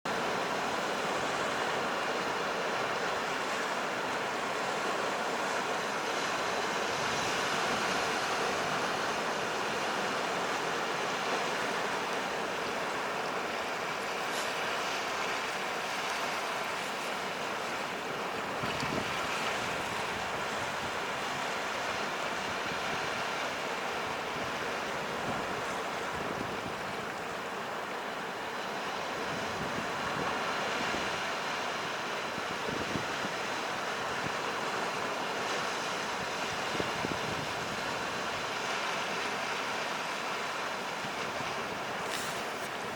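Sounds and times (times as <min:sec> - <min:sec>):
wind: 0:00.0 - 0:42.9
sea surf washing on shore: 0:00.1 - 0:42.9.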